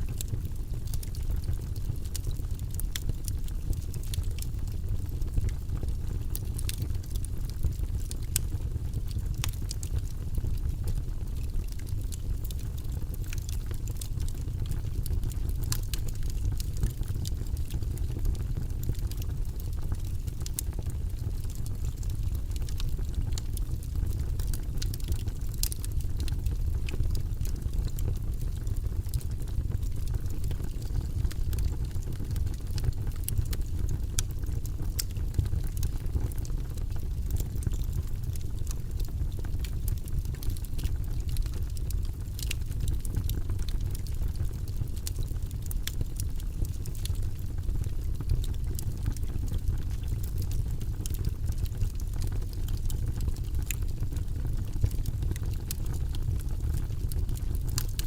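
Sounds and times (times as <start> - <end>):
logs crackling in fireplace: 0.0 - 58.0.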